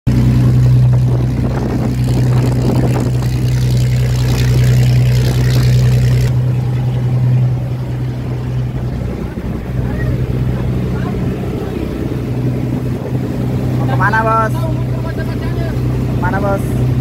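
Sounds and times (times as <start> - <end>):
boat engine droning: 0.1 - 17.0
water splashing along hull: 0.1 - 17.0.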